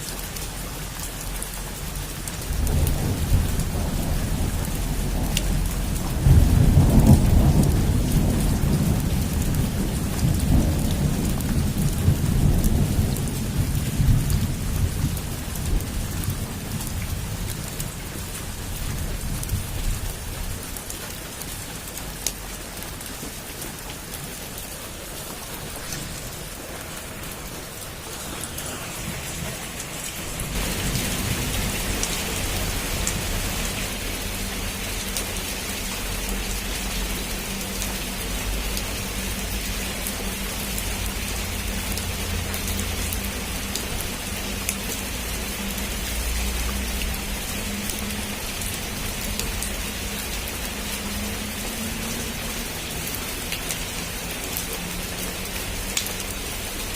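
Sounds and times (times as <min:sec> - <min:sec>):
heavy rain on a roof: 0:00.0 - 0:56.9
thunder rumbling: 0:02.4 - 0:20.8, 0:24.3 - 0:52.0.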